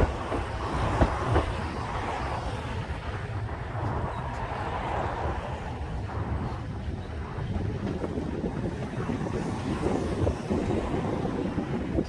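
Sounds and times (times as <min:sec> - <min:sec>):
tram rumbling on track: 0:00.0 - 0:12.0
wind noise on microphone: 0:00.0 - 0:12.0.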